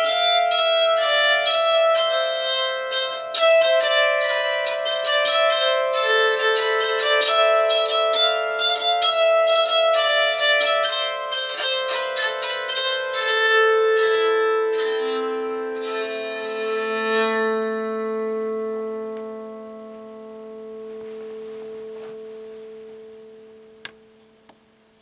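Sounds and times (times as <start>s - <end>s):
bowed psaltery playing: 0.0s - 24.8s.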